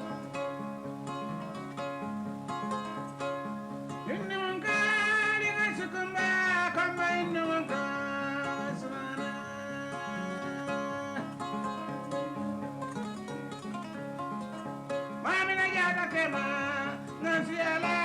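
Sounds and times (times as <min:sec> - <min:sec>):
person singing: 0:00.0 - 0:02.0, 0:02.6 - 0:12.8, 0:14.4 - 0:18.0
kora plucked pattern: 0:00.0 - 0:18.0.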